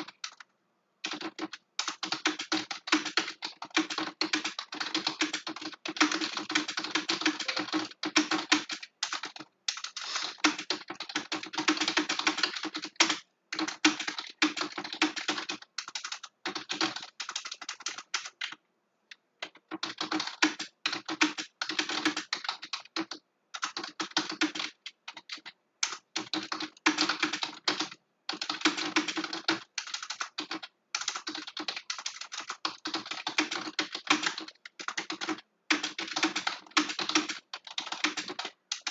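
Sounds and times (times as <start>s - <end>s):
fast typing on a keyboard: 0.0s - 18.6s, 19.4s - 38.9s.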